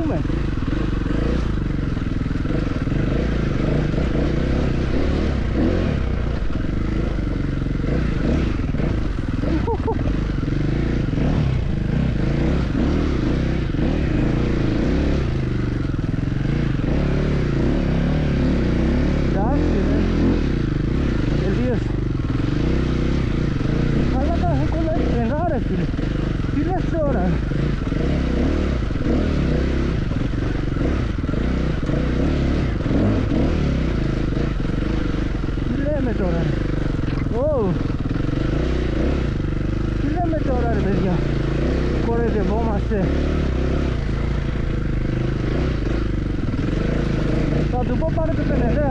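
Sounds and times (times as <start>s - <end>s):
clatter: 0.0s - 48.9s
motorcycle engine revving: 0.0s - 48.9s.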